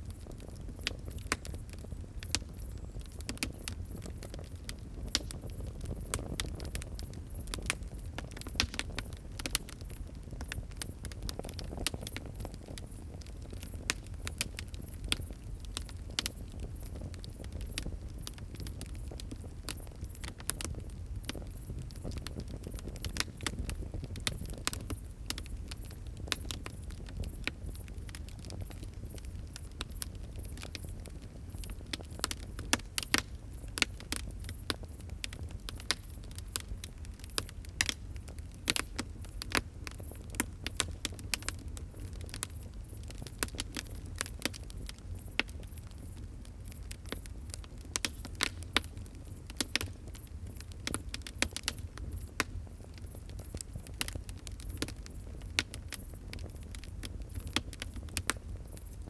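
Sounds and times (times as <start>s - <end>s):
fire crackling: 0.0s - 59.0s.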